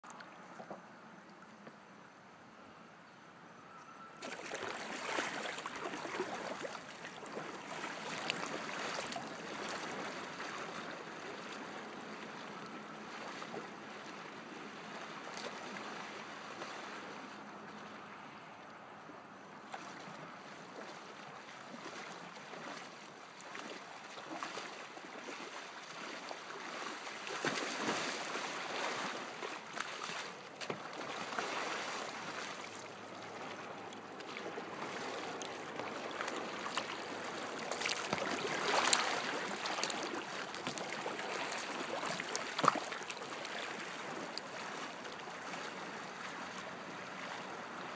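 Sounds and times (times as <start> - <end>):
kayak paddle strokes splashing: 4.2 - 17.8, 19.7 - 47.9
lake water lapping: 4.2 - 18.4, 19.6 - 47.9.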